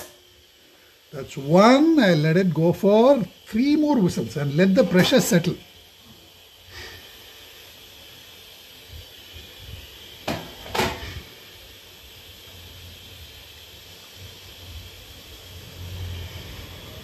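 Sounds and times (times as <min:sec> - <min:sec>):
pressure cooker hissing: 0:00.0 - 0:17.0.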